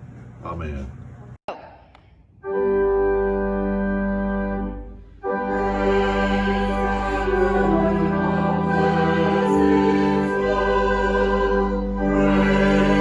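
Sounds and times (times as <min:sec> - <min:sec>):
church organ chords: 0:02.4 - 0:13.0.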